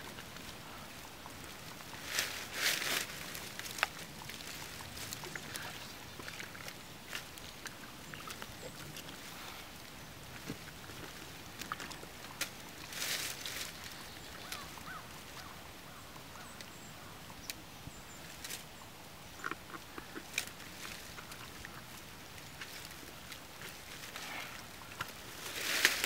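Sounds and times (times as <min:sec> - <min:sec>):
dry leaves crackling and rustling: 0:00.0 - 0:16.0, 0:19.7 - 0:26.0.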